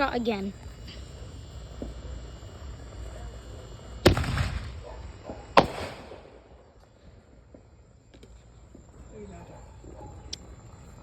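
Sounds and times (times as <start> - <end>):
firework bangs: 0.1 - 9.0.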